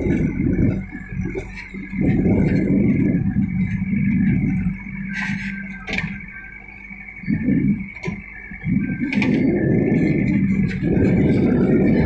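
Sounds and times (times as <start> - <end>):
diesel engine surging: 0.0 - 12.0.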